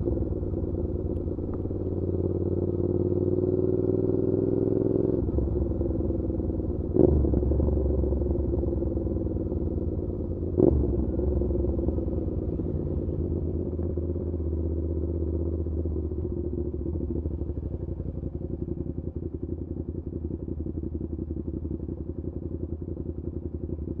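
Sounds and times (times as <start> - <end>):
motorcycle engine blips and idle: 0.0 - 24.0.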